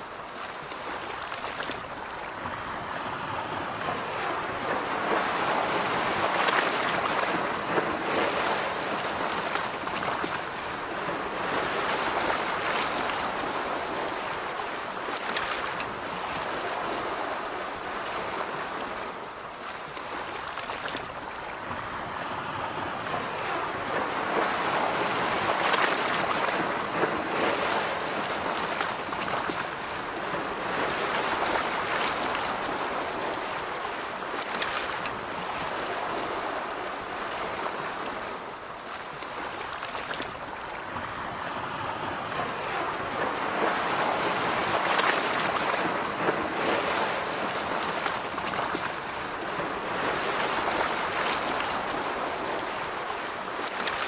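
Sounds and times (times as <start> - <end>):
ocean waves washing on beach: 0.0 - 54.0.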